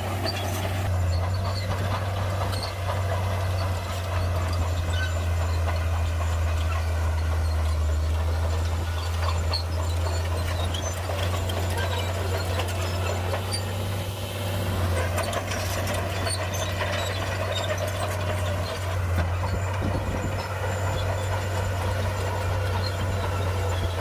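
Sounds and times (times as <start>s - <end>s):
bulldozer diesel engine droning: 0.0s - 24.0s.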